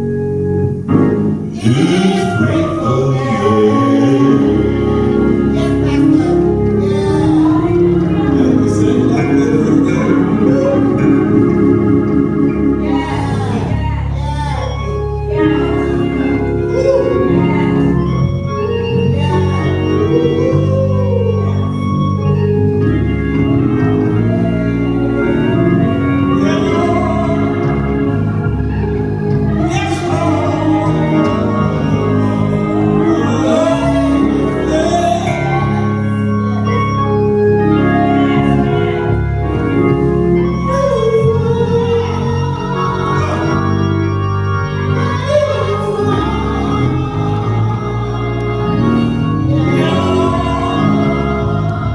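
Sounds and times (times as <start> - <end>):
church organ playing: 0.0 - 51.9.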